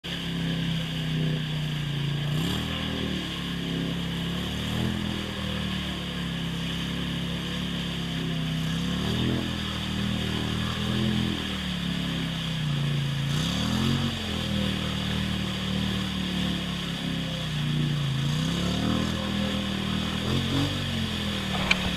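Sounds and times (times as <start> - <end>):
atv engine revving: 0.0 - 21.9.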